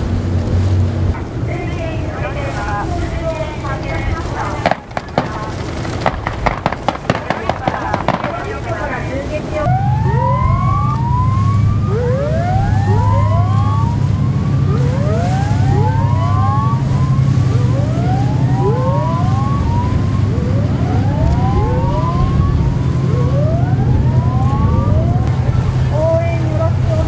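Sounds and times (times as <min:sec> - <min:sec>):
boat engines droning: 0:00.0 - 0:27.0
whooping sirens: 0:00.0 - 0:27.0.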